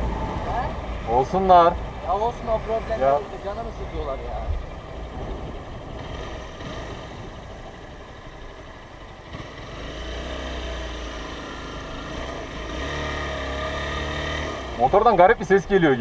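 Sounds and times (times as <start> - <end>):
motorcycle engine running: 0.0 - 16.0
road and traffic noise: 0.0 - 16.0.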